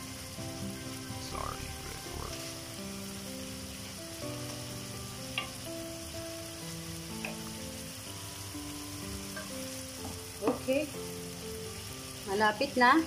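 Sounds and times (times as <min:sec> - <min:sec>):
faint background music: 0:00.0 - 0:13.0
food sizzling in a pan: 0:00.0 - 0:13.0.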